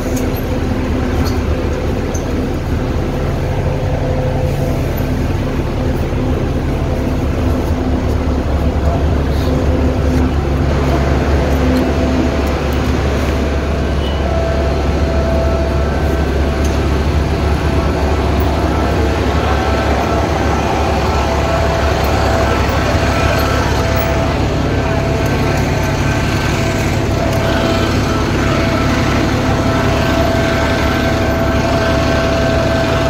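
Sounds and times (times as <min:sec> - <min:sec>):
bus engine rumble: 0:00.0 - 0:33.0
faint held whine: 0:00.0 - 0:33.0.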